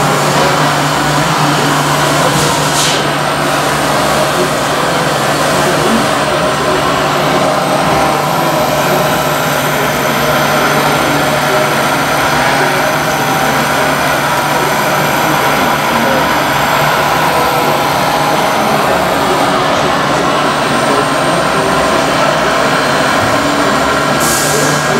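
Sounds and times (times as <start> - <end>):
hydraulic pump whine: 0.0 - 24.9.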